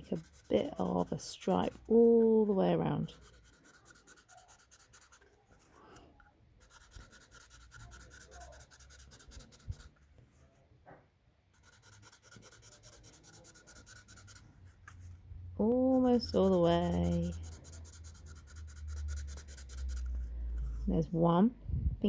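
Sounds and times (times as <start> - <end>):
felt-tip pen scratching cardboard: 0.0 - 5.8, 6.6 - 10.0, 11.6 - 21.0.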